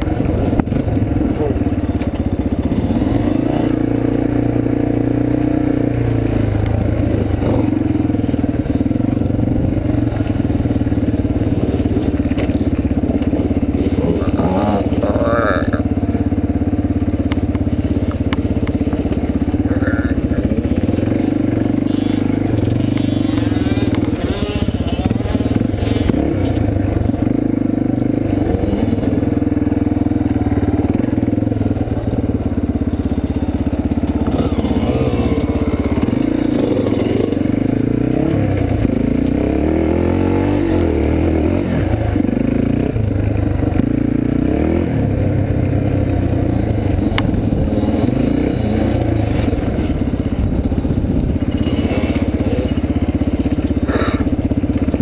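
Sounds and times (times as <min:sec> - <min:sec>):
bike rattles and knocks: 0:00.0 - 0:05.1, 0:06.0 - 0:39.7, 0:46.2 - 0:55.0
dirt bike engine running: 0:00.0 - 0:55.0.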